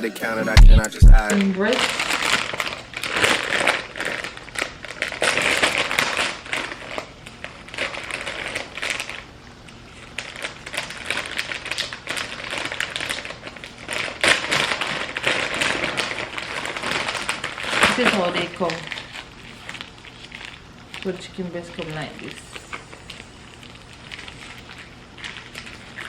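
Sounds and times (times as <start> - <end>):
plastic food packaging crinkling: 1.3 - 26.0.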